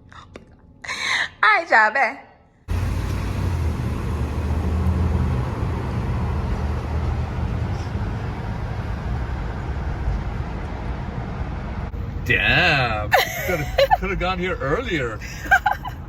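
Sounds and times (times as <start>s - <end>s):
car cabin road noise: 2.7s - 16.0s.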